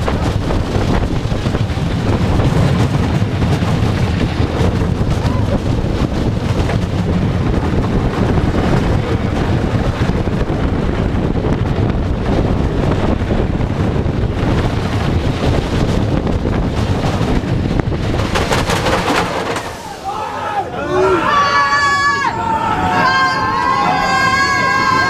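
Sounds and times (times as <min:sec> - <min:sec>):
wind buffeting microphone: 0:00.0 - 0:21.3
roller coaster rumbling on track: 0:00.0 - 0:25.0.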